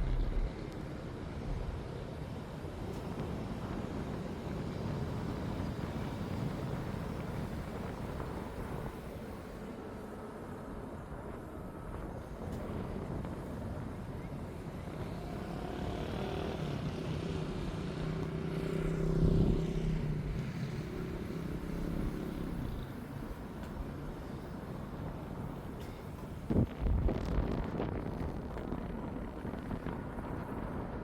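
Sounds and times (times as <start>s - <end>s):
passing engine hum: 0.0s - 12.1s, 12.7s - 26.5s.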